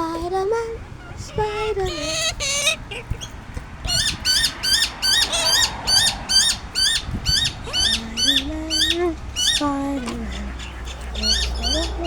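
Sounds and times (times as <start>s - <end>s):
faint high bird calls: 0.8s - 12.0s
bird chirping rapidly: 0.9s - 12.0s.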